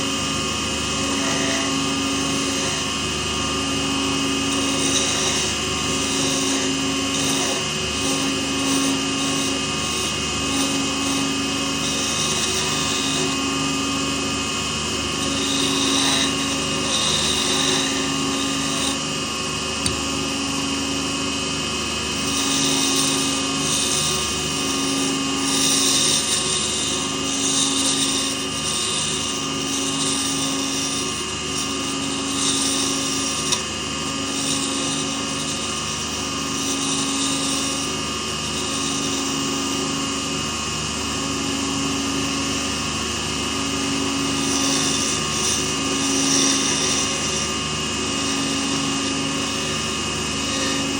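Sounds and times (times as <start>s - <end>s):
lathe humming: 0.0s - 50.9s.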